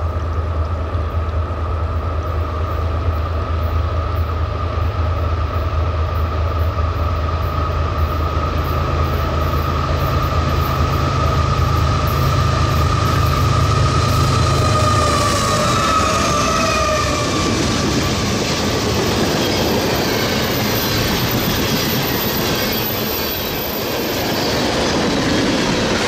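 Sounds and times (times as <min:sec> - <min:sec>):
high whine: 0:00.0 - 0:26.0
locomotive engine rumble: 0:00.0 - 0:26.0.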